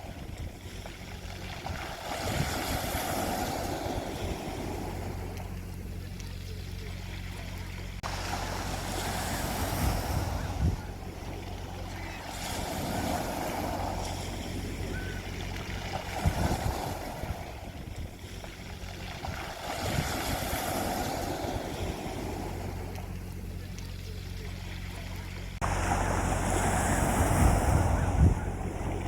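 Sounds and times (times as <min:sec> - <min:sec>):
wind gusts on microphone: 0:00.0 - 0:05.8, 0:08.0 - 0:23.2, 0:25.6 - 0:29.0
sea waves breaking on shore: 0:00.0 - 0:29.0.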